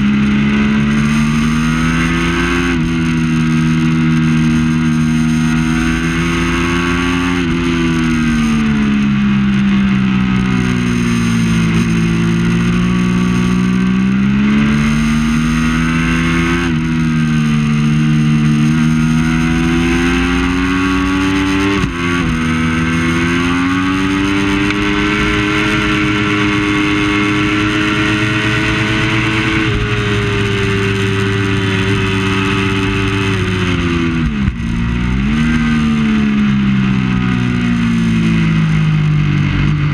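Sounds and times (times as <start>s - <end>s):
motorcycle engine revving hard: 0.0s - 39.9s.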